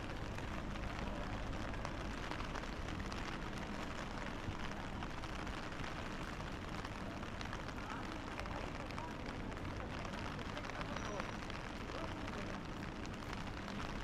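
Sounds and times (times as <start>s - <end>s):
low street rumble: 0.0s - 14.0s
rain on a city street: 0.0s - 14.0s.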